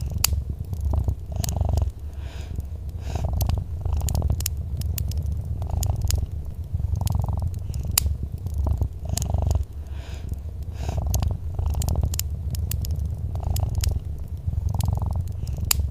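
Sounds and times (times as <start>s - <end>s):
cat purring: 0.0s - 15.9s
fireplace crackling and popping: 0.0s - 15.9s.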